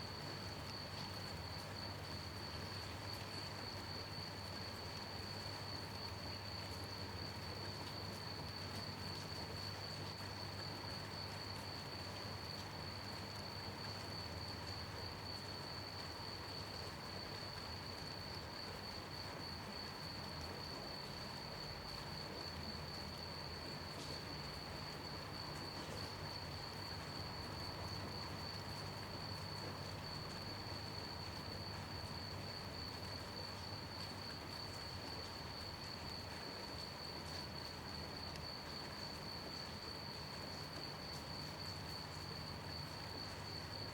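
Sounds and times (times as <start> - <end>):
crickets chirping: 0.0 - 43.9
light rain: 0.0 - 43.9.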